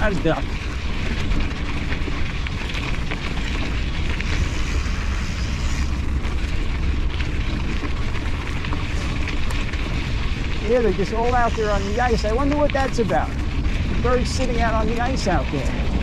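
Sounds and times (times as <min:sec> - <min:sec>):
bike clicks and rattles: 0:00.0 - 0:16.0
wind rumbling on microphone: 0:00.0 - 0:16.0.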